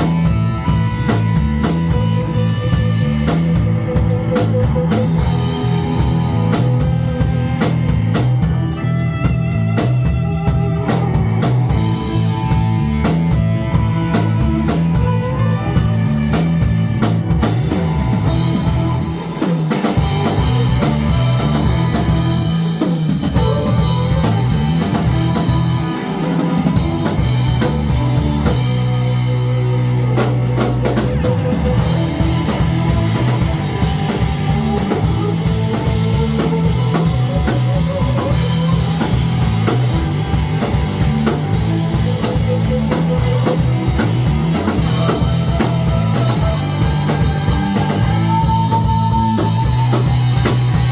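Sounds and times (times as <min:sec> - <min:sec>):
drum kit: 0:00.0 - 0:50.9
rock band playing live: 0:00.0 - 0:50.9.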